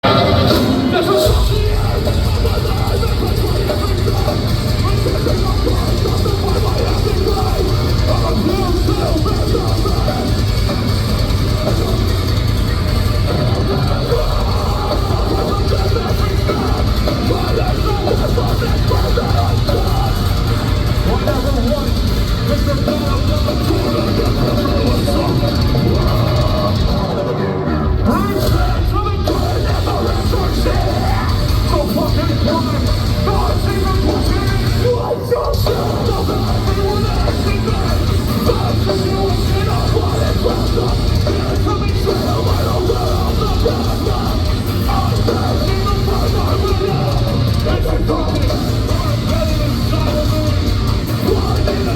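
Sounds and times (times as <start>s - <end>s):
distorted guitars: 0.0s - 51.9s
drums: 0.0s - 51.9s
live heavy metal band: 0.0s - 51.9s.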